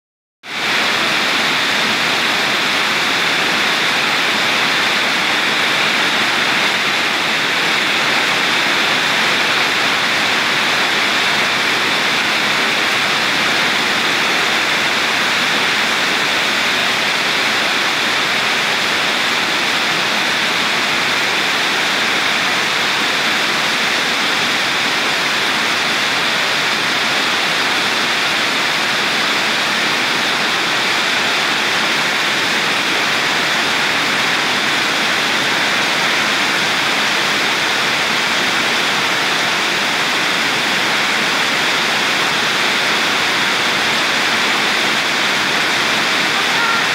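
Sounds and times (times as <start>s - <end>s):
torrential rain: 0.4s - 46.9s.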